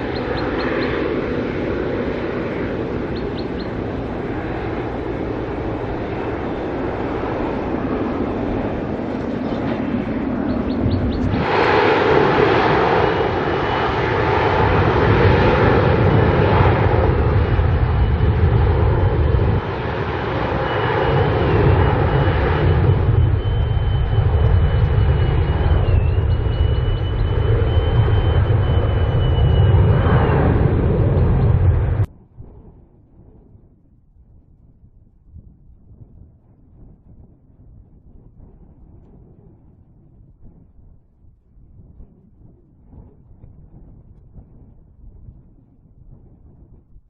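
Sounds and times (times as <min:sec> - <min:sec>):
jet engine roar: 0:00.0 - 0:46.7.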